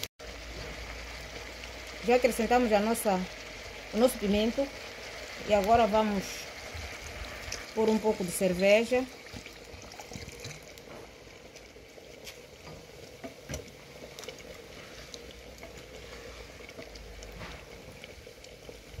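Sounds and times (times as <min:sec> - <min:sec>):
charcoal fire crackling: 0:00.0 - 0:19.0
stew simmering: 0:00.0 - 0:19.0.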